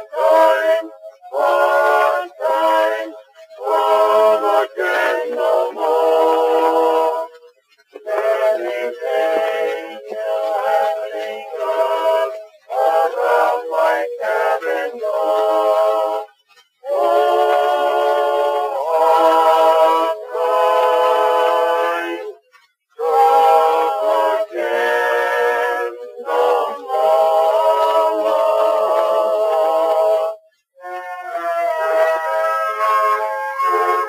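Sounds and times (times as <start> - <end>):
vocal quartet singing in harmony: 0.0 - 34.0.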